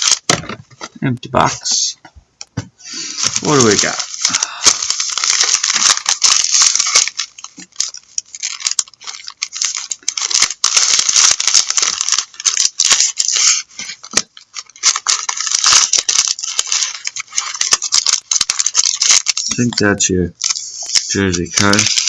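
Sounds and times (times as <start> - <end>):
card wrappers crinkling and rustling: 0.0 - 1.6, 2.5 - 22.0.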